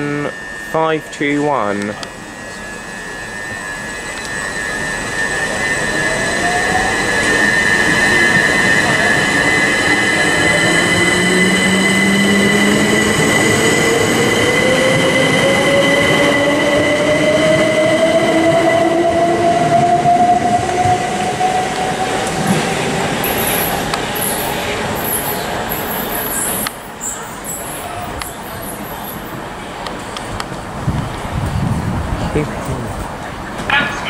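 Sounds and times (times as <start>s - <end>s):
steady high-pitched whine: 0.0s - 30.1s
electric train motors whining: 0.0s - 30.6s.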